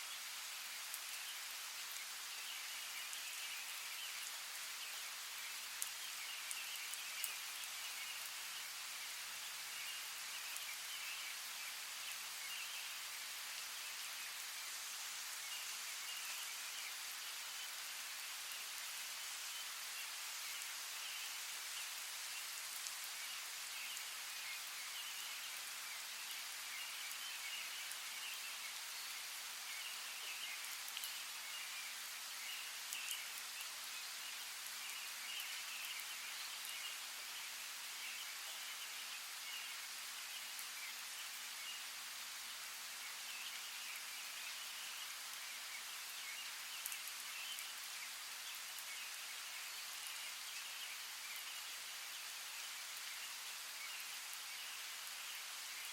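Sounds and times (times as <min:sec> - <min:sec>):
running water hiss: 0:00.0 - 0:55.9.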